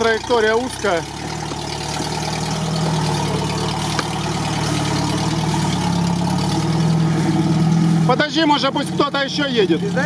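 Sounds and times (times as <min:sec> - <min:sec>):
off-road vehicle engine at low revs: 0:00.0 - 0:10.0.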